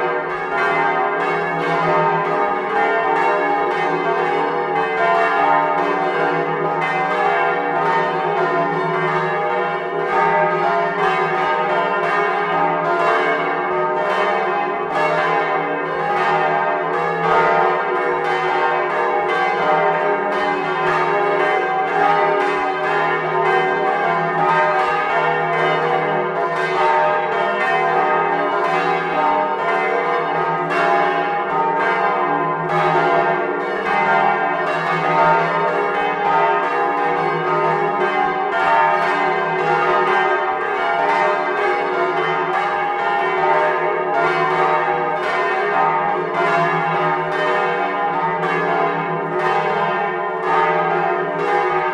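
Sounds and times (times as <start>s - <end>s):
church bells ringing: 0.0s - 51.9s.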